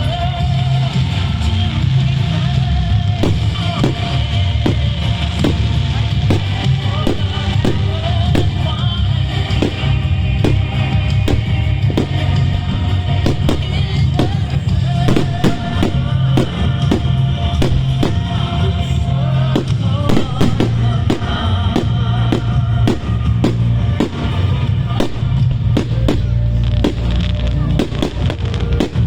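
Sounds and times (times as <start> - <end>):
fireworks bangs: 1.8 - 29.0
loud music with low beat: 2.9 - 29.0.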